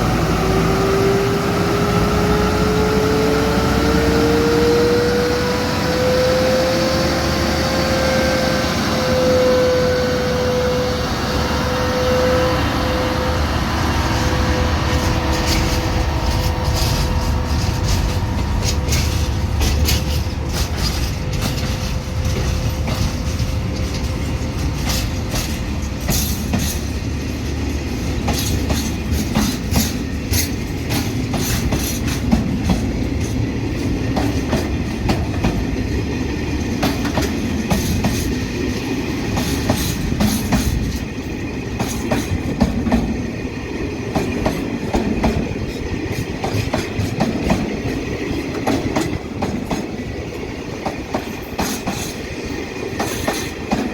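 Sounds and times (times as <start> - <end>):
train rumble: 0.0 - 53.9
train wheels clickety-clack: 2.0 - 53.9.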